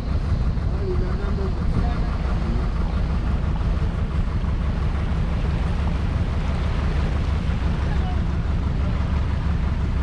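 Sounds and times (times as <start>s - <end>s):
boat engine rumble: 0.0s - 10.0s
water wash: 0.0s - 10.0s.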